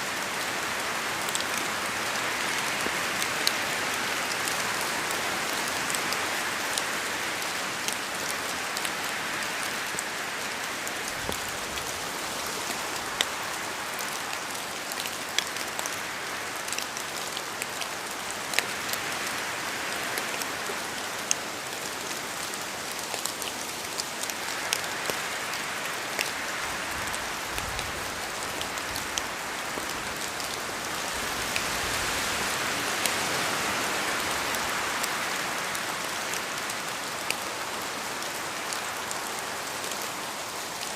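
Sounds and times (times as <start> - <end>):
raindrops ticking close by: 0.1 - 40.9.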